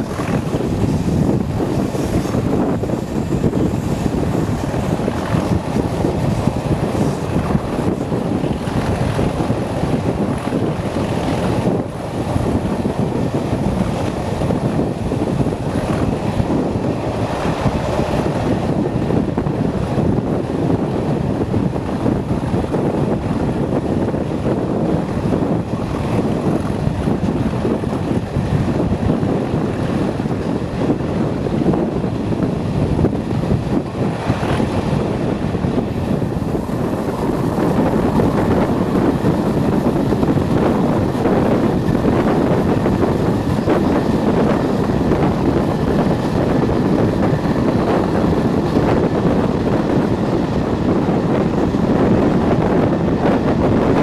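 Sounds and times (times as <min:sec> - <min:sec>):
diesel locomotive under power: 0:00.0 - 0:54.0
rush of moving train: 0:00.0 - 0:54.0
wind buffeting microphone: 0:00.0 - 0:54.0.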